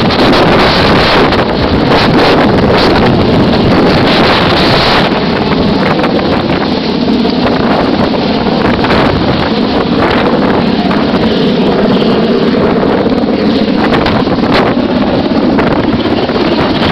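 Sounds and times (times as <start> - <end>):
helicopter running: 0.0 - 16.9
wind buffeting microphone: 0.0 - 16.9.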